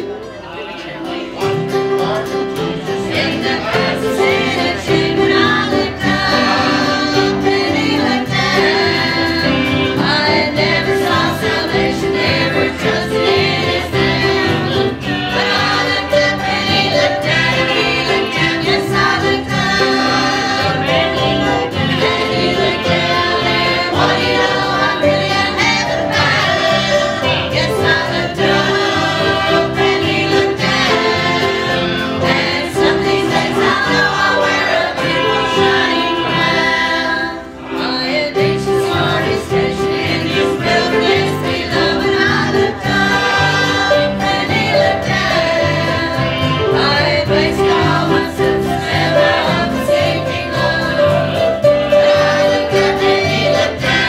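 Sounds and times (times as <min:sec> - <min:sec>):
rhythmic instrumental accompaniment: 0:00.0 - 0:54.0
choir singing a gospel hymn: 0:00.8 - 0:54.0.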